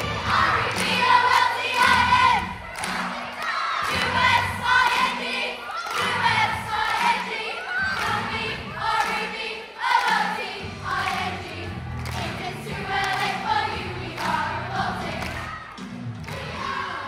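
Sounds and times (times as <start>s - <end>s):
children singing and shouting: 0.0s - 17.0s.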